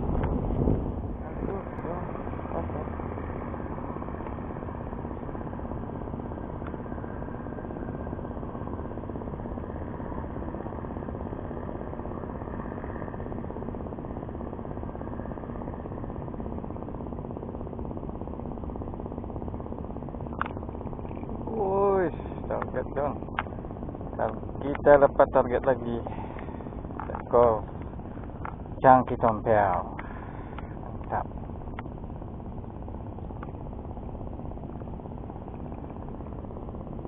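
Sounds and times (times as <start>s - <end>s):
engine idling drone: 0.0s - 37.0s.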